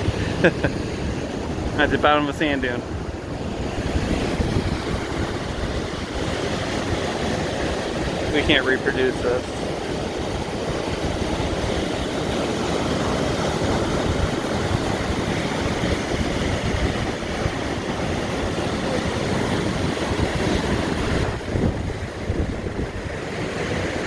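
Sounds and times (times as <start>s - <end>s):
surf breaking on shore: 0.0s - 24.0s
wind buffeting microphone: 0.0s - 24.0s.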